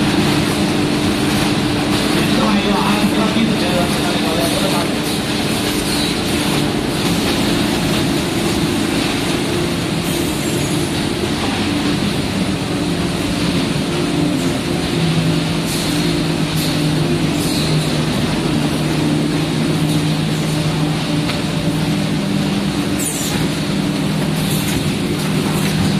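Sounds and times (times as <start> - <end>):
production line machinery hum: 0.0 - 25.9.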